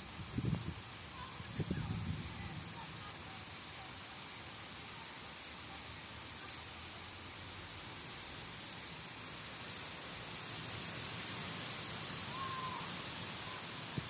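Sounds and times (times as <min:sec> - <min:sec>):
rain on leaves and grass: 0:00.0 - 0:14.0.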